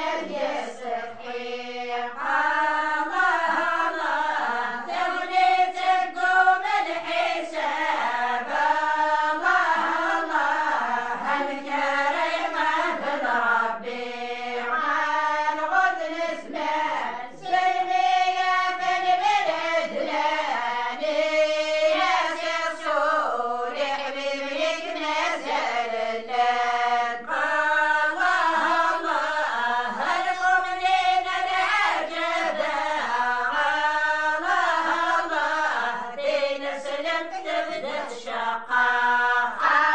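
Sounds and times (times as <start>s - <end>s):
women singing unaccompanied chant: 0.0s - 39.9s.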